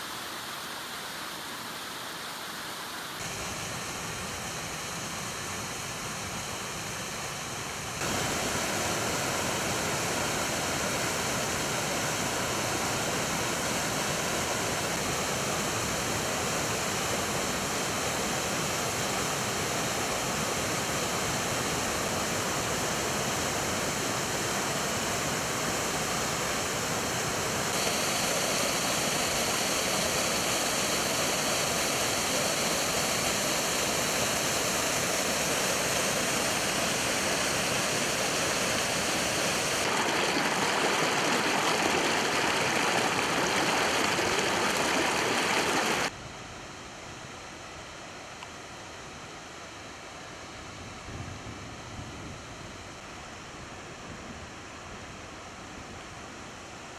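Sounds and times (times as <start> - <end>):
waterfalls pouring and splashing: 0.0 - 46.1.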